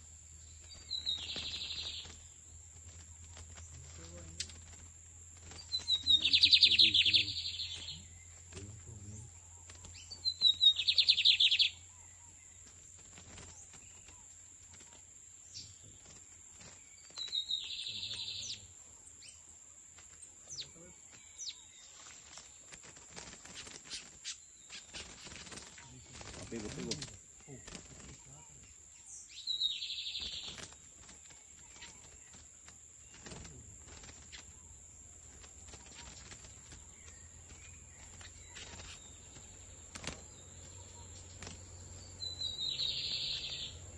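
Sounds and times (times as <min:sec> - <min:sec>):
bird singing buzzy trills: 0:00.0 - 0:43.9.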